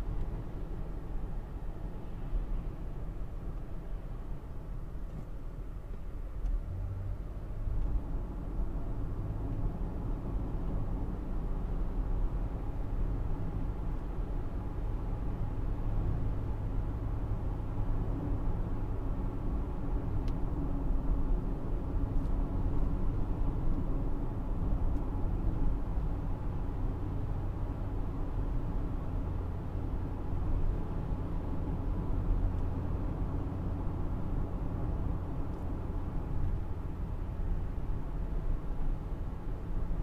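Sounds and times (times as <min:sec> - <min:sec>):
engine and road noise in car: 0:00.0 - 0:40.0.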